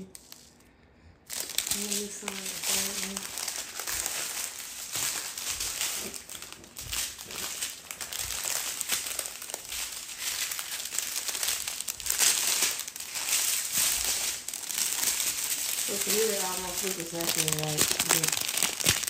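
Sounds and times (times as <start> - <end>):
plastic bags crinkling: 1.2 - 19.0.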